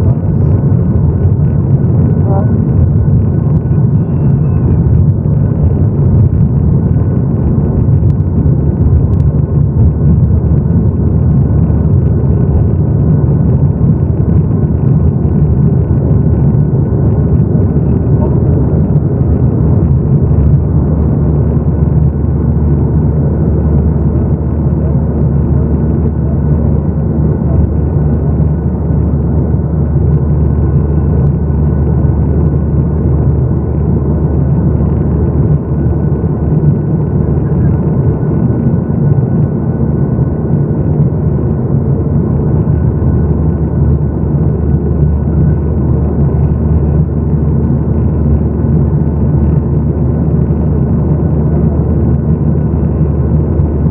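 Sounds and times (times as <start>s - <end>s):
faint steady whine: 0.0s - 53.9s
jet engines rumbling in cabin: 0.0s - 53.9s.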